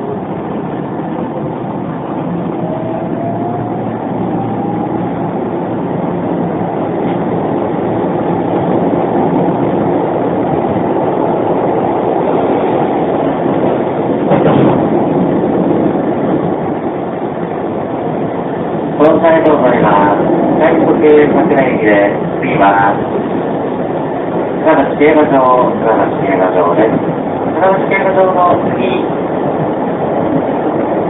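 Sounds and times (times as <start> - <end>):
wheel and rail rumble: 0.0 - 31.0.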